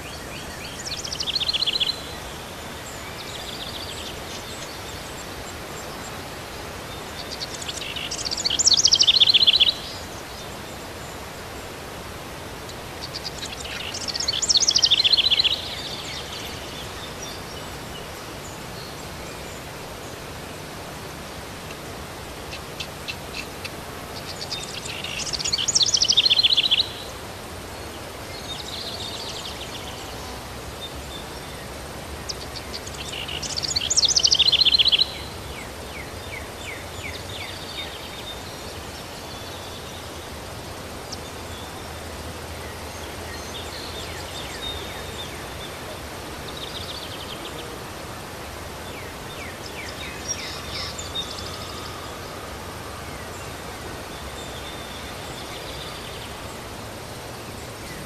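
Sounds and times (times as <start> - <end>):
background hiss: 0.0 - 58.0
songbird singing: 0.0 - 58.0.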